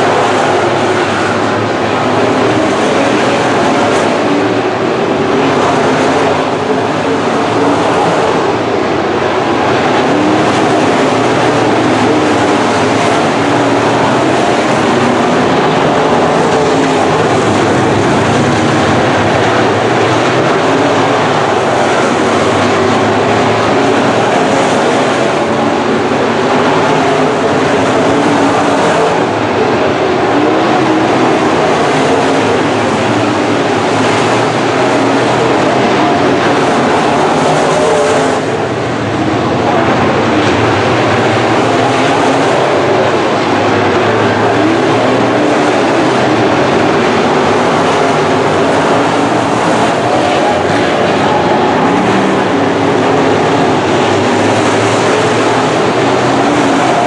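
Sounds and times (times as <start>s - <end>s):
race car engines roaring: 0.0s - 57.0s.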